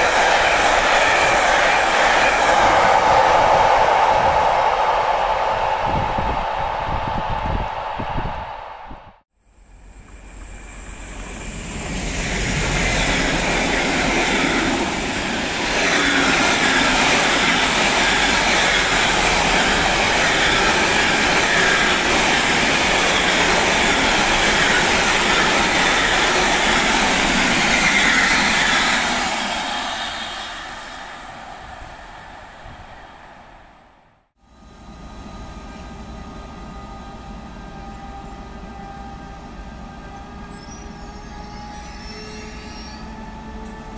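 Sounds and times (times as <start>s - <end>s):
train wheels rushing on rails: 0.0s - 8.9s, 9.7s - 43.9s.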